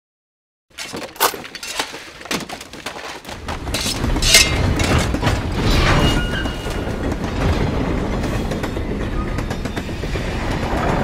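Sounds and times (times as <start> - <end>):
train wheels clattering over rails: 0.8 - 11.0.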